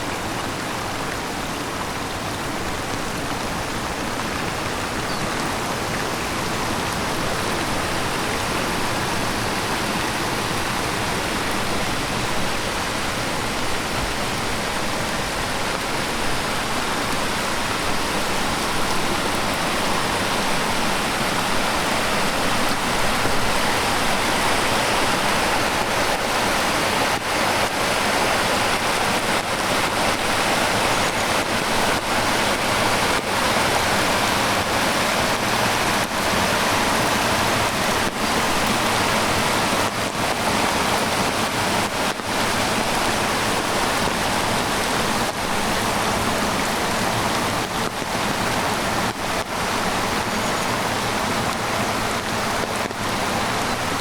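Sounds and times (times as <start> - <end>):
heavy rain: 0.0 - 54.0
stream rushing: 0.0 - 54.0.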